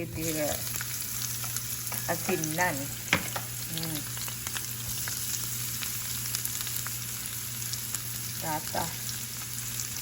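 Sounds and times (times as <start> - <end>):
onion frying in oil sizzling: 0.0 - 10.0.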